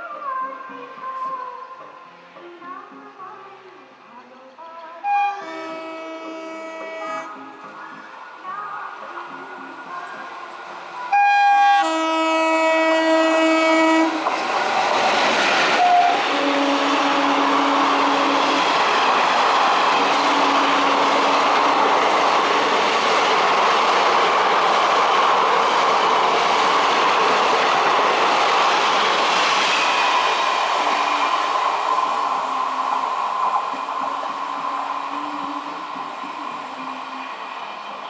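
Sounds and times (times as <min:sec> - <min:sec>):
train wheels on rail joints: 0:05.0 - 0:38.0.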